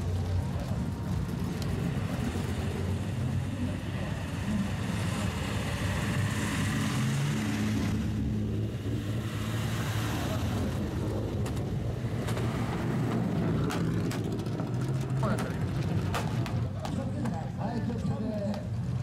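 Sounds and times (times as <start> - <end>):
car engines and exhausts passing: 0.0 - 19.0.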